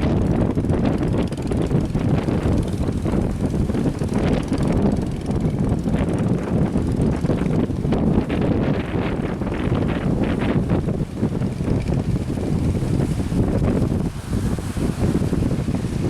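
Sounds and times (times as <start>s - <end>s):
boat engines droning: 0.0s - 16.0s
wind buffeting microphone: 0.0s - 16.0s.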